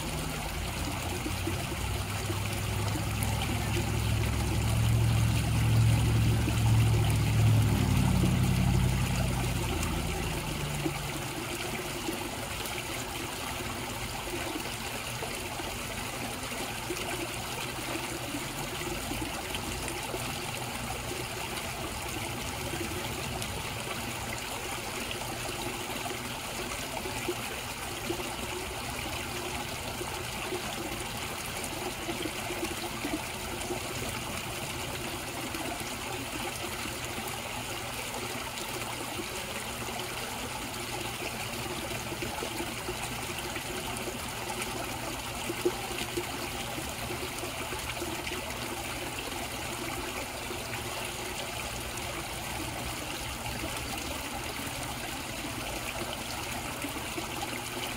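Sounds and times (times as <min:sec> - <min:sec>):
water trickling and splashing: 0:00.0 - 0:57.9.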